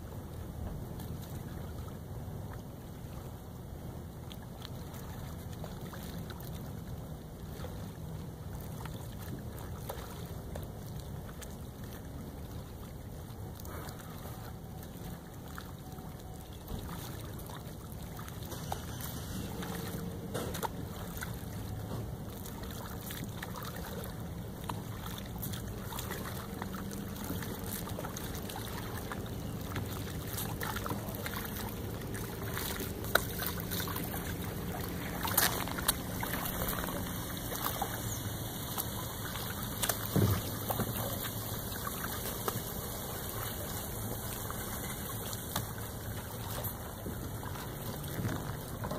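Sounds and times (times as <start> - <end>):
paddle splashing in water: 0.0 - 48.9
steady outdoor hiss: 0.0 - 48.9.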